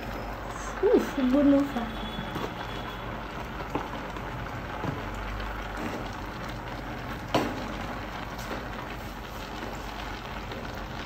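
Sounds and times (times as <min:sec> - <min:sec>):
pot bubbling on gas flame: 0:00.0 - 0:11.0.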